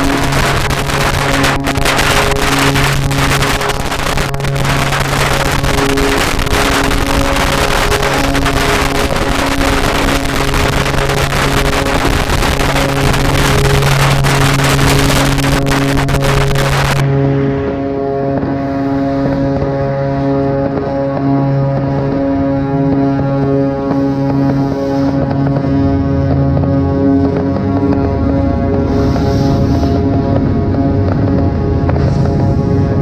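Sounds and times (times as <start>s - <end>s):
firecrackers crackling: 0.0s - 17.1s, 18.2s - 33.0s
background music: 0.0s - 33.0s.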